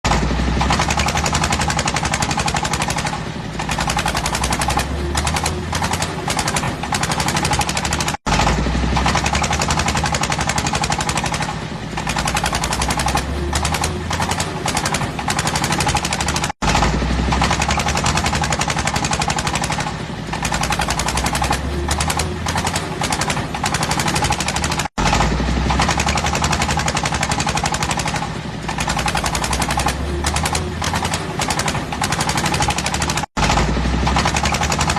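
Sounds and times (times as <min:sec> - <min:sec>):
boat diesel engine chugging: 0:00.1 - 0:34.9.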